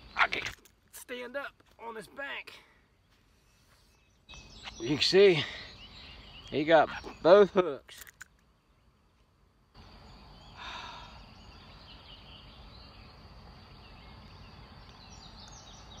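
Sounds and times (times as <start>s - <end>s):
faint outdoor background hiss: 0.0s - 16.0s.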